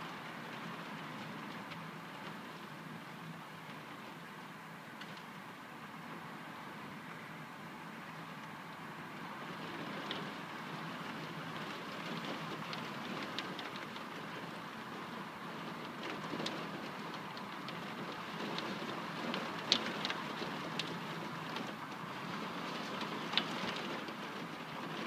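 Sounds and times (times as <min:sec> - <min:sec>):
rain falling steadily: 0:00.0 - 0:25.0.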